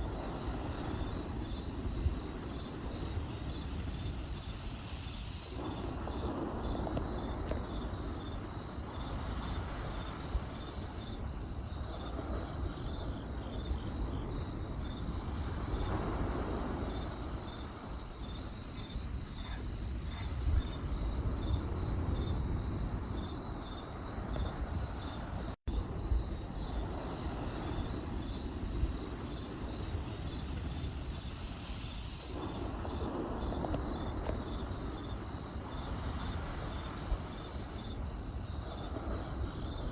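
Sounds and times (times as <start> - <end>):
campfire rumbling and crackling: 0.0 - 39.9
crickets chirping: 0.0 - 39.9.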